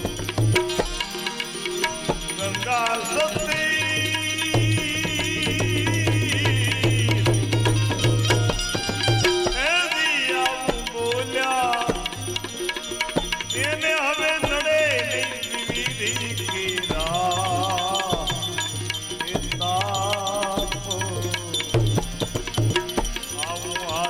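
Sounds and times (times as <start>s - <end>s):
rattling hand percussion: 0.0s - 24.0s
tabla drumming: 0.0s - 24.0s
wavering devotional melody: 0.0s - 24.0s.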